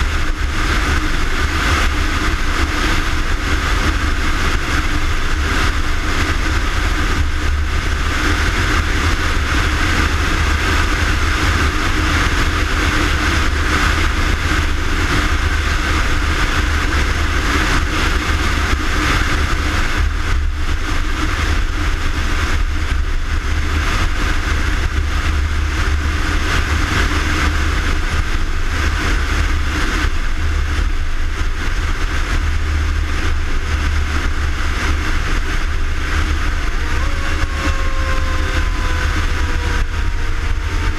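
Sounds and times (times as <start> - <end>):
fire engine running: 0.0 - 40.9.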